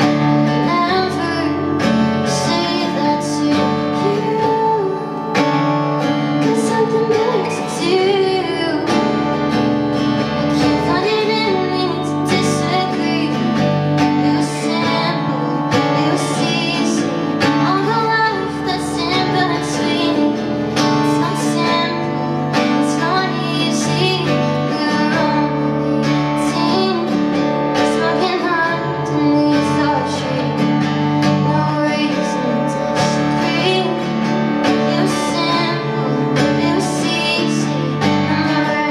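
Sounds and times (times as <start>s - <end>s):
guitar: 0.0s - 38.9s
woman singing: 0.0s - 38.9s.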